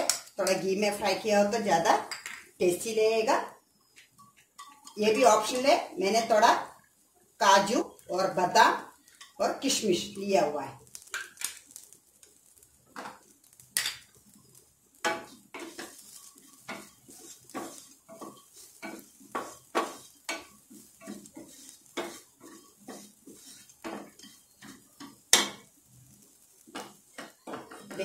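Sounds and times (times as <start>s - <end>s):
wooden spatula scraping a pan: 4.0s - 6.8s, 7.4s - 28.0s.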